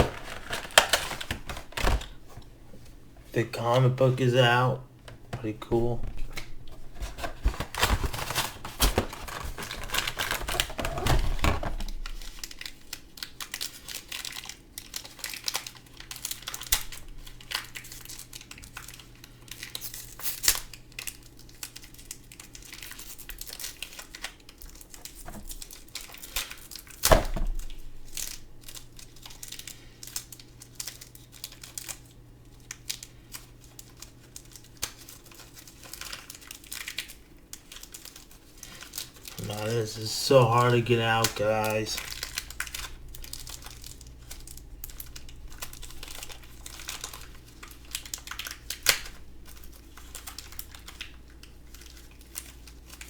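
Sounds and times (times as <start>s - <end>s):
packaging crinkling and tearing: 0.0s - 2.8s, 5.8s - 53.0s.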